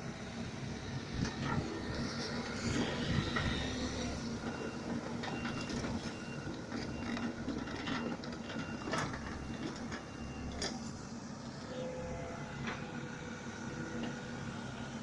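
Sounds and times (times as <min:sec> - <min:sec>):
mini excavator running: 0:00.0 - 0:15.0.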